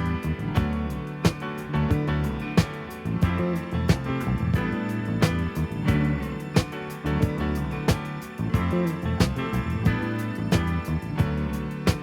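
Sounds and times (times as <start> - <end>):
easy-listening background music: 0.0 - 12.0.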